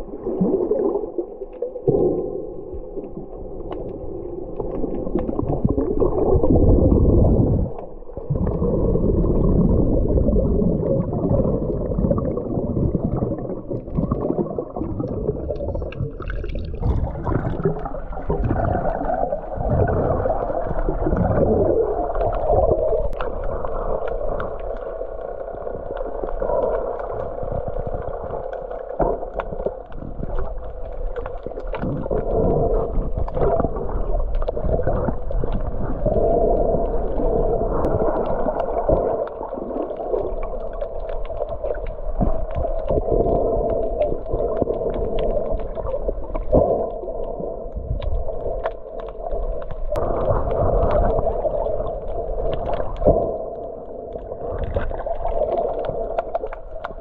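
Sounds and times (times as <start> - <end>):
underwater sloshing and gurgling: 0.0 - 57.0.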